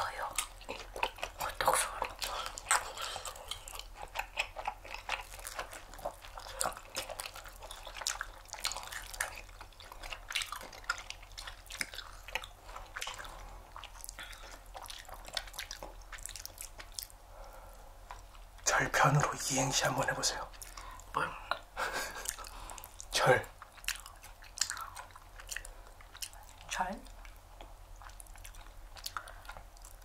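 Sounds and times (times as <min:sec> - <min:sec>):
wet chewing smacks and clicks: 0:00.0 - 0:30.0.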